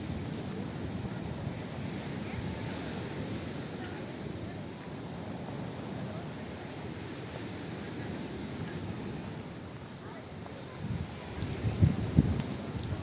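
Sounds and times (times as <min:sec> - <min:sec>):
crowd chatter: 0:00.0 - 0:13.0.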